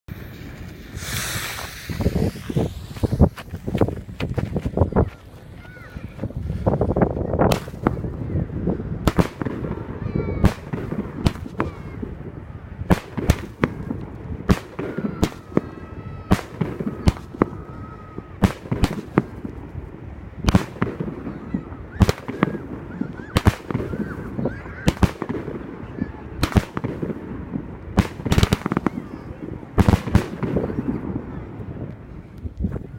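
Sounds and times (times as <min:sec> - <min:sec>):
firework bangs: 0:00.1 - 0:32.7.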